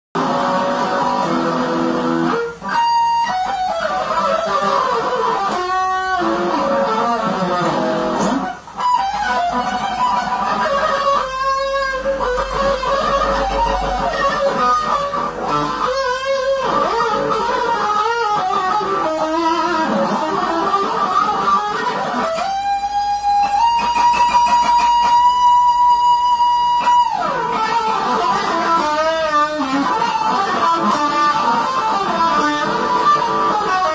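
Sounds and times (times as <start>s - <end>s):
electric guitar lead: 0.2s - 33.9s.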